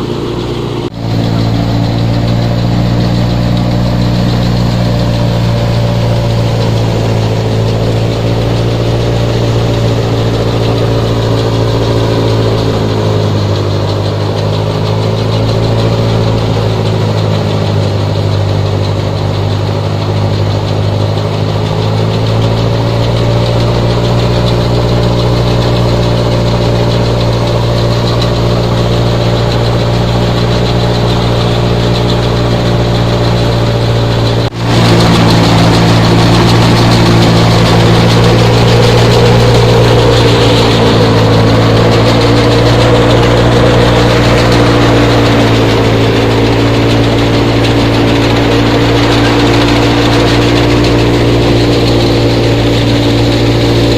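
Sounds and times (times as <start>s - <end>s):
tractor engine humming: 0.0s - 53.9s.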